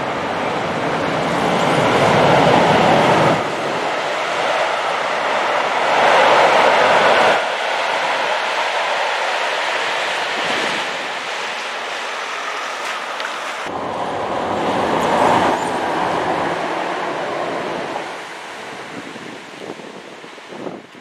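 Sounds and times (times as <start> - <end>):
freight train wheels on rail: 0.0 - 21.0
passenger train passing: 0.0 - 21.0.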